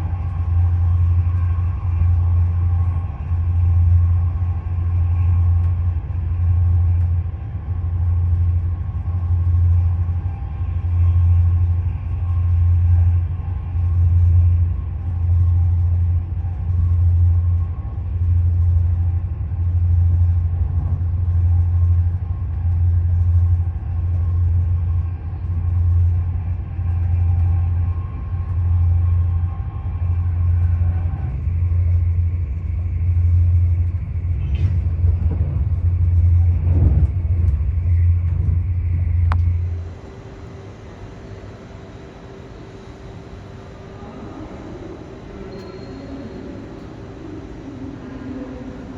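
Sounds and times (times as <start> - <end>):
train rumble inside carriage: 0.0 - 48.9.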